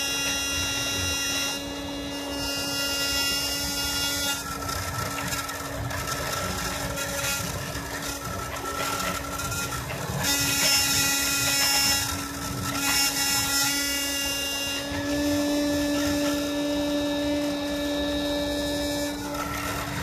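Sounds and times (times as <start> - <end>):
engraving bit cutting acrylic: 0.0 - 20.0
rotary tool spinning: 0.0 - 20.0
stepper motors whining: 0.0 - 20.0.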